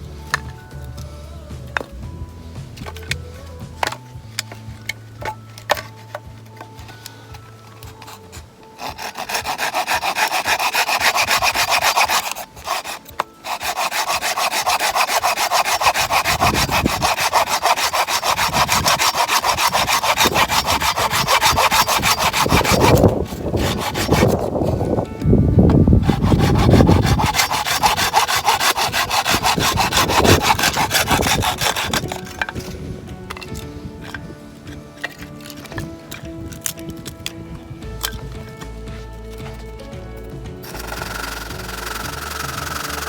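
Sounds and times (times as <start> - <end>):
hand saw cutting wood: 2.8 - 39.6, 40.6 - 43.0.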